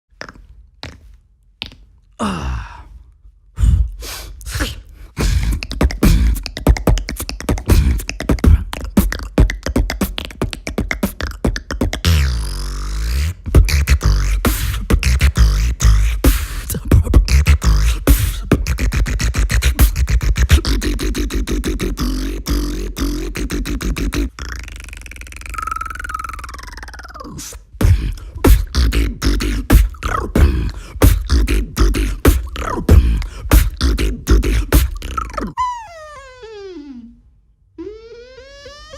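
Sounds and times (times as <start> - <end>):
person beatboxing: 3.6 - 35.6.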